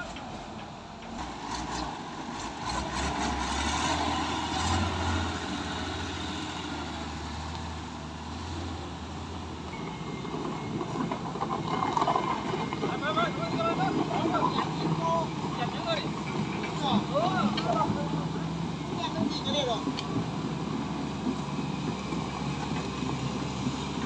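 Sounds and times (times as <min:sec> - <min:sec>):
truck diesel engine droning: 0:00.0 - 0:24.0.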